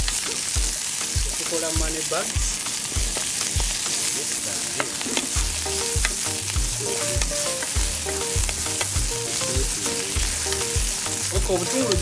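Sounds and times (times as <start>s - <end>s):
background music beat: 0.0s - 12.0s
onions sizzling in oil: 0.0s - 12.0s.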